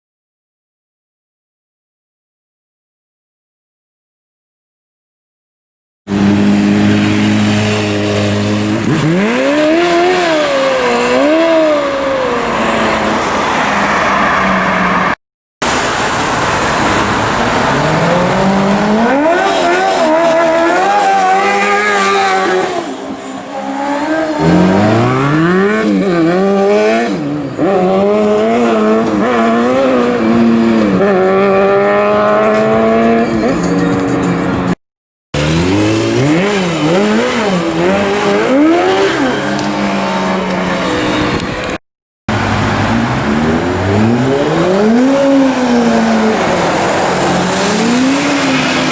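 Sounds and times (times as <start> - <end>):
motorcycle engines revving: 6.1 - 34.8, 35.4 - 48.9.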